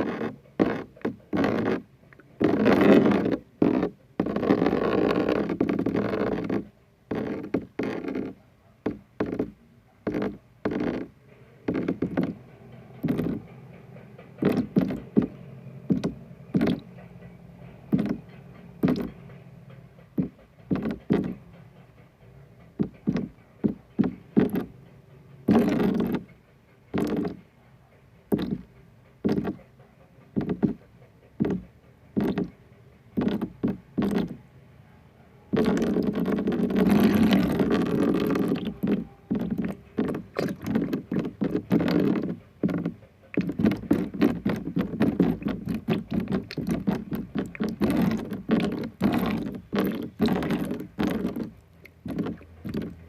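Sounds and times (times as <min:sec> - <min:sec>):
short irregular taps and knocks: 0:00.0 - 0:27.6, 0:28.2 - 0:34.5, 0:35.5 - 0:53.0.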